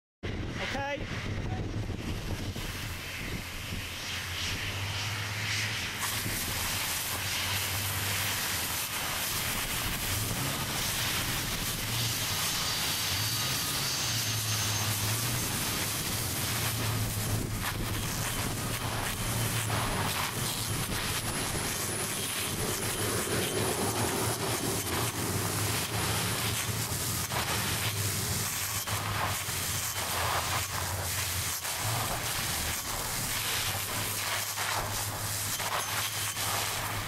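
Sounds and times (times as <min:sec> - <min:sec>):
water jet spraying hiss: 0:01.9 - 0:37.0.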